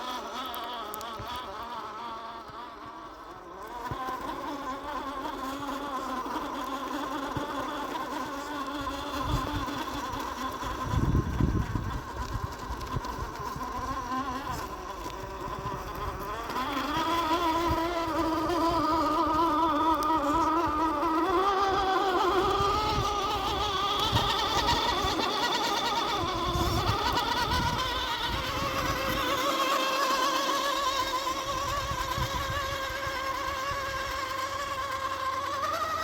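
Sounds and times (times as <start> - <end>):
toy car motor whining: 0.0 - 36.0.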